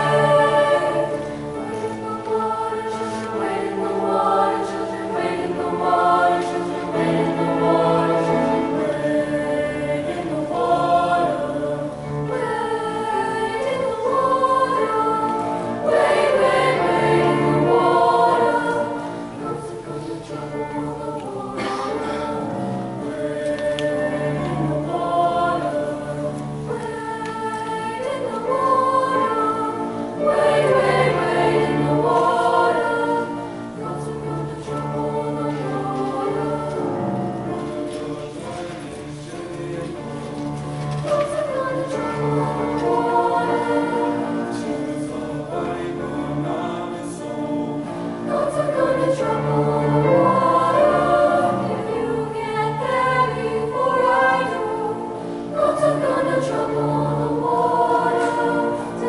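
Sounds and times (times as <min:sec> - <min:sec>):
choir singing in parts: 0:00.0 - 0:59.0.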